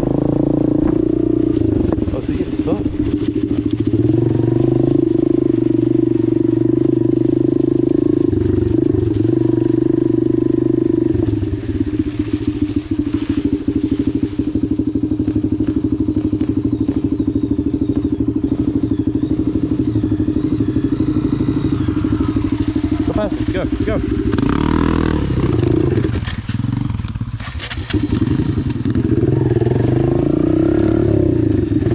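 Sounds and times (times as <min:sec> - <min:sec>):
dirt bike engine running: 0:00.0 - 0:31.9.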